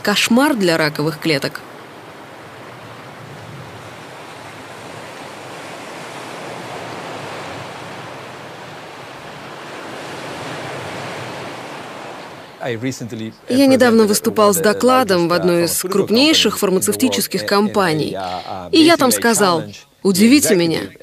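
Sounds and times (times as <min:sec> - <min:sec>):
ocean surf washing on shore: 0:00.0 - 0:21.0.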